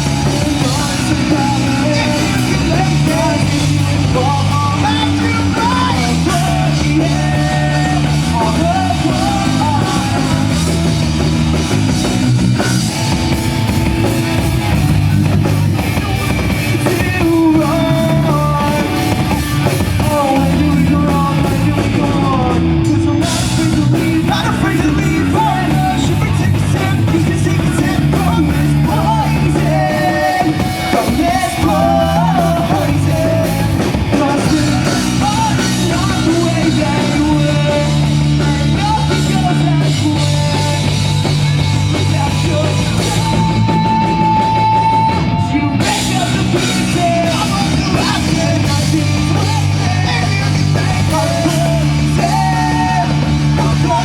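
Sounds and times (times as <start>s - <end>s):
person singing: 0.0s - 11.4s, 15.6s - 54.0s
drum kit: 0.0s - 54.0s
guitar: 0.0s - 54.0s
live rock band playing: 0.0s - 54.0s.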